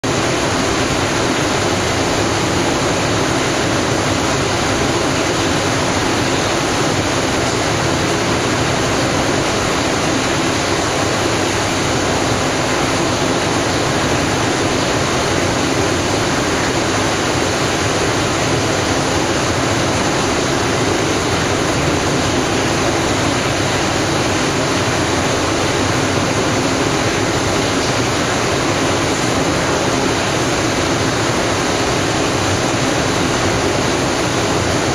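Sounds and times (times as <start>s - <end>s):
turbulent water rushing: 0.0s - 34.9s.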